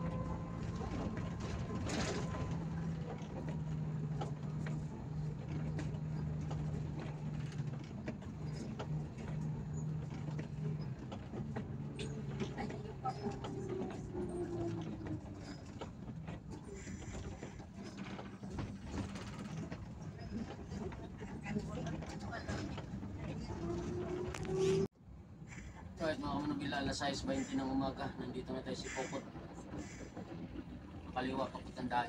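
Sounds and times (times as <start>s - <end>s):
bus engine running: 0.0s - 32.0s.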